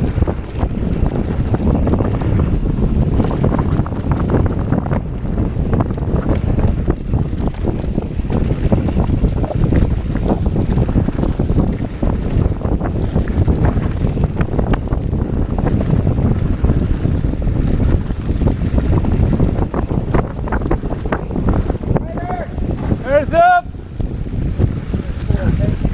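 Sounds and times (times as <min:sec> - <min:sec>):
bike clicks and rattles: 0:00.0 - 0:25.9
tyres rumbling on dirt: 0:00.0 - 0:25.9
wind buffeting microphone: 0:00.0 - 0:25.9.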